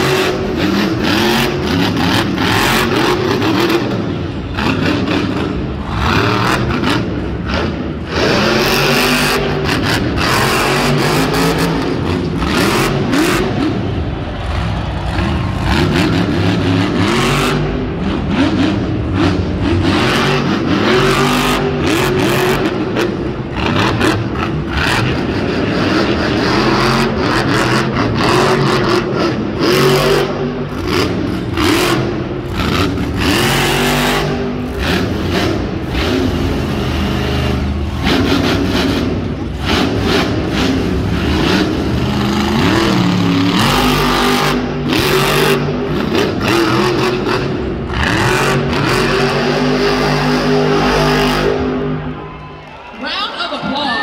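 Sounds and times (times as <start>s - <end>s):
truck engine revving hard: 0.0s - 52.2s.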